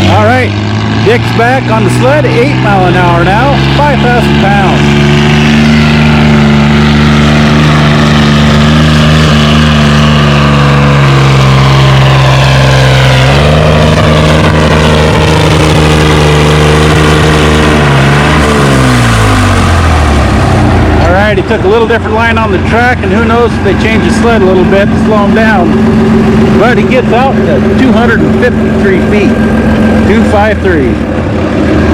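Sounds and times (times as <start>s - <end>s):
tractor engine under load: 0.0s - 31.9s.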